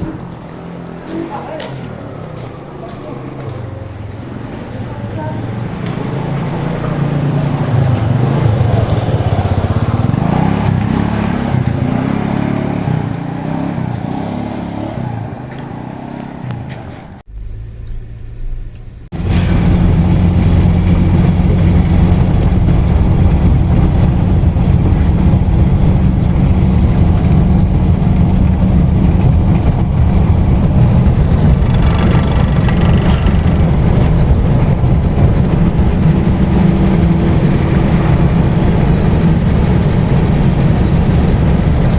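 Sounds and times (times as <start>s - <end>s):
motor vehicle engine running: 0.0s - 41.9s.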